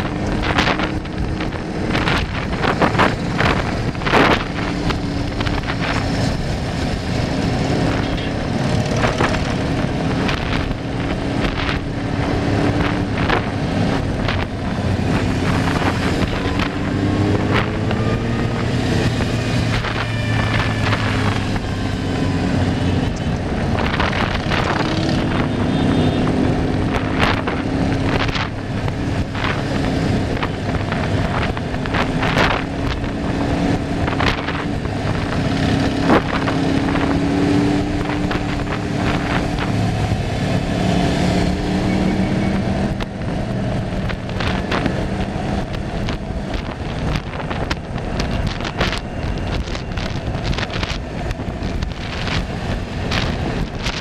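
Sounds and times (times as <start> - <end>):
vehicle motor hum: 0.0 - 54.0
wind buffeting microphone: 0.0 - 54.0.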